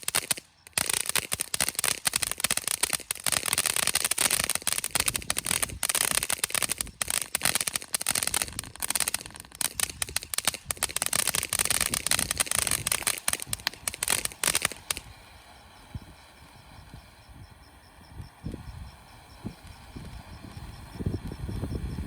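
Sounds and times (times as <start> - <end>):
firework fountain hissing and crackling: 0.0 - 22.0.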